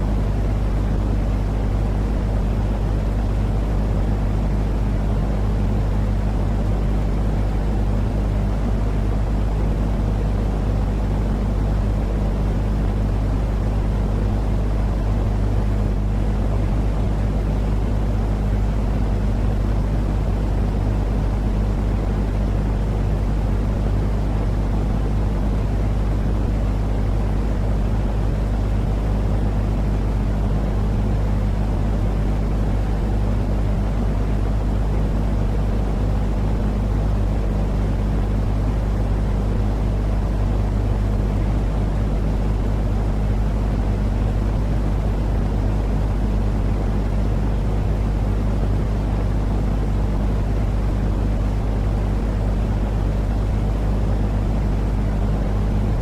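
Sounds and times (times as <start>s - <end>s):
low white-noise rumble: 0.0s - 56.0s.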